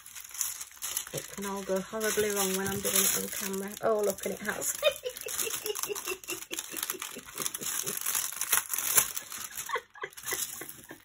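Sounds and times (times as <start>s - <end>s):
plastic film rustling and crinkling: 0.0s - 11.0s.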